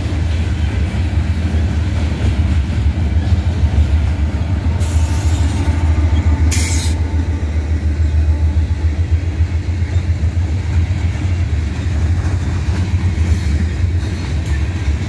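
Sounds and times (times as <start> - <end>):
diesel locomotive rumble: 0.0 - 15.0
train wheels on rails: 0.0 - 15.0.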